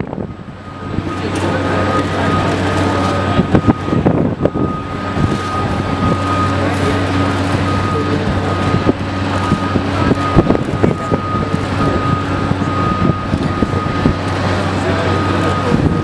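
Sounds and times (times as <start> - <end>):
high-pitched whine: 0.0 - 16.0
tow tractor engine running: 0.0 - 16.0.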